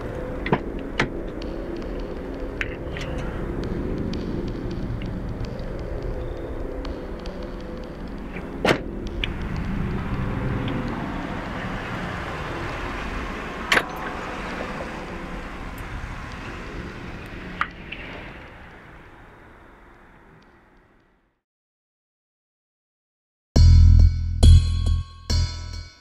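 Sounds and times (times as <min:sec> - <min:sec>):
car rumble: 0:00.0 - 0:21.0
night outdoor ambience: 0:00.0 - 0:21.4.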